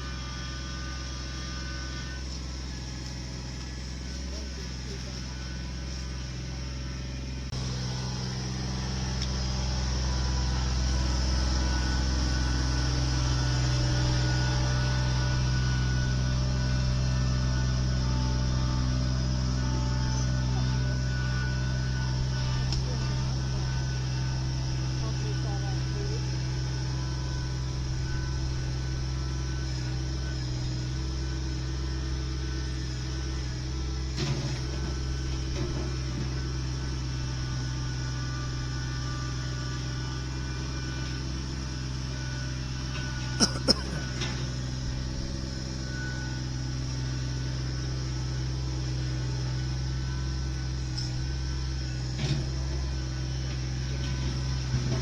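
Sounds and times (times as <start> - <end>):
machine engine droning: 0.0 - 55.0.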